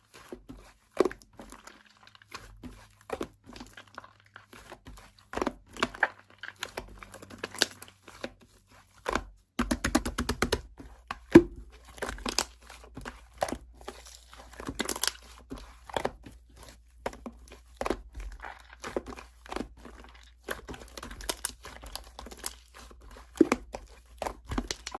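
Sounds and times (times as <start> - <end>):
slime squishing with sticky clicks: 0.2 - 25.0.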